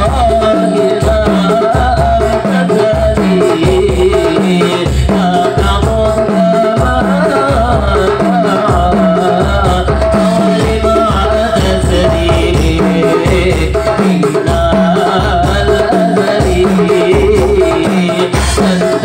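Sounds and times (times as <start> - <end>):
men chanting through microphone: 0.0 - 19.0.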